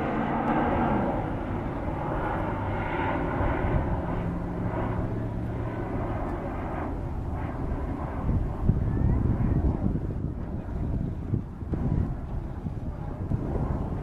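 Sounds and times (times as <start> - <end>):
jet engine roar flying by: 0.0 - 14.0.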